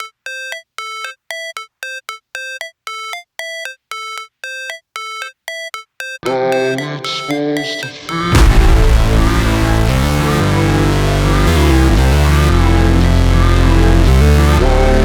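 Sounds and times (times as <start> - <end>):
electronic music with beeping synth: 0.0 - 15.0.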